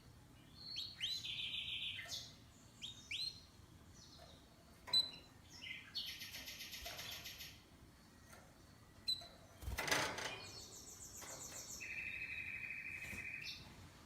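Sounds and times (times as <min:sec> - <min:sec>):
canary singing trills: 0:00.4 - 0:13.7.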